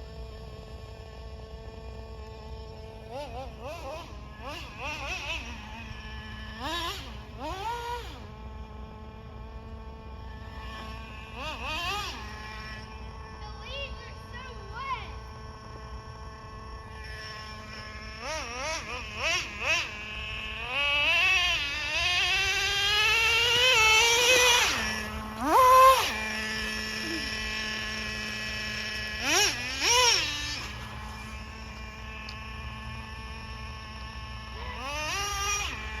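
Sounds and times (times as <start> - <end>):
model car engine revving: 0.0 - 36.0.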